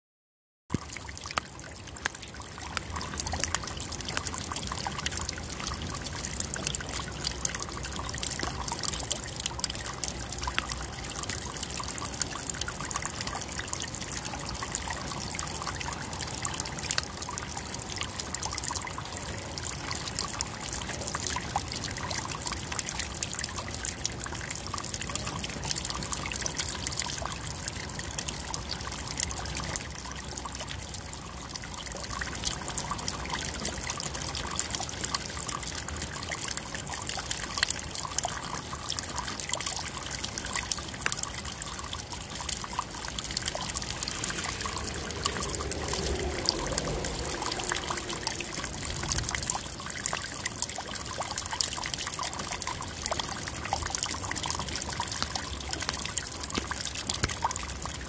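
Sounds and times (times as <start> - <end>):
rainwater splashing onto stones: 0.7 - 58.0.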